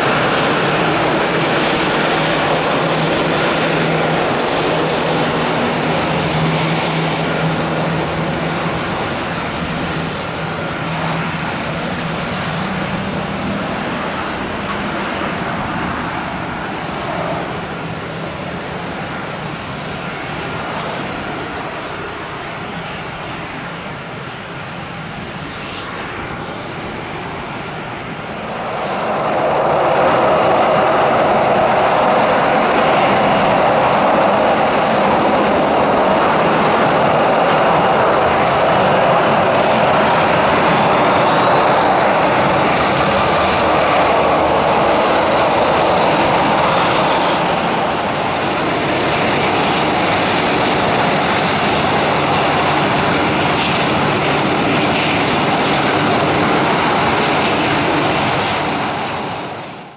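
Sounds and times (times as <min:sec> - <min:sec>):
jet engines with whine: 0:00.0 - 0:59.9.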